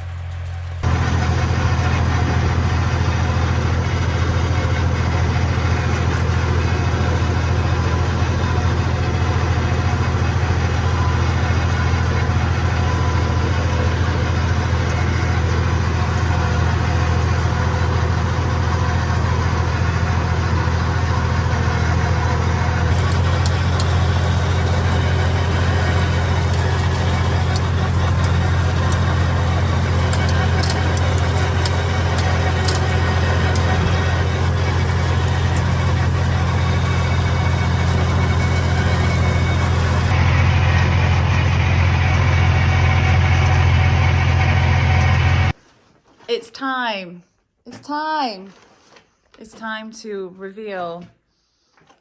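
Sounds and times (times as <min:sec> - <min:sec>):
tractor diesel engine idling: 0:00.0 - 0:45.6.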